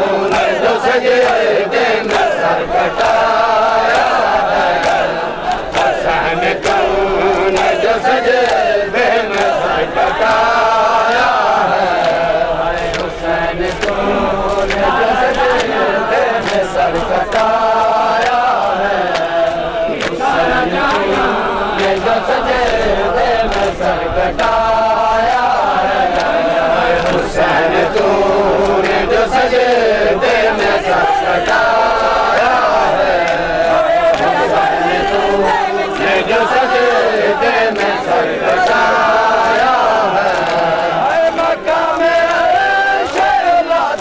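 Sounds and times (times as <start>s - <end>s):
men chanting together: 0.0s - 44.0s
hands slapping bare chests: 0.3s - 22.8s, 23.5s - 24.6s, 25.2s - 44.0s.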